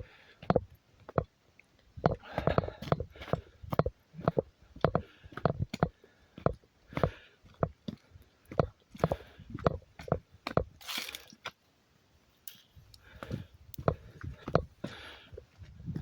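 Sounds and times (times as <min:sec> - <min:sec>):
footsteps on forest trail: 0:00.0 - 0:16.0.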